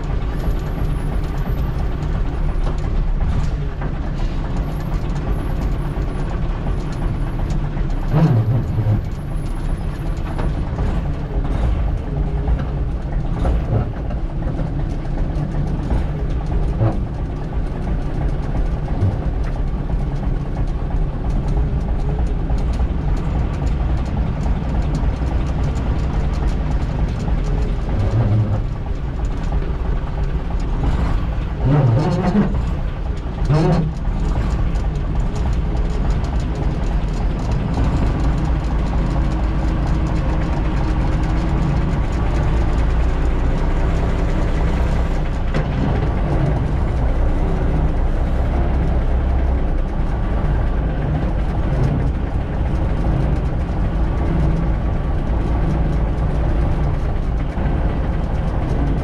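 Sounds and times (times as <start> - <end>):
bus diesel engine rumbling: 0.0 - 59.0
clunks: 0.0 - 59.0.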